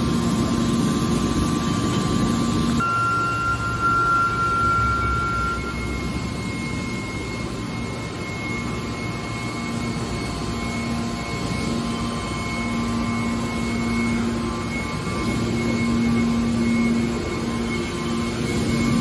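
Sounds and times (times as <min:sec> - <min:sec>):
hydraulic pump motor drone: 0:00.0 - 0:19.0.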